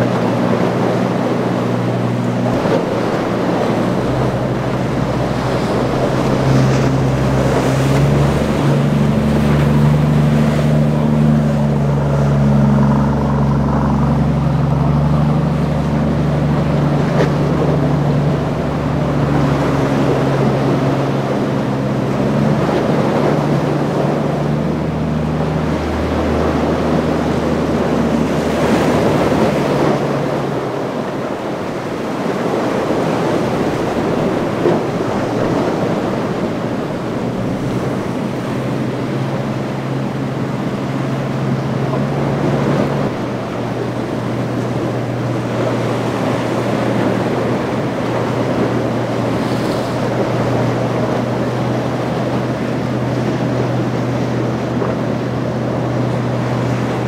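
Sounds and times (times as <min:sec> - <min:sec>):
boat engine droning: 0:00.0 - 0:57.0
waves breaking: 0:00.0 - 0:57.0
wind buffeting microphone: 0:00.0 - 0:57.0.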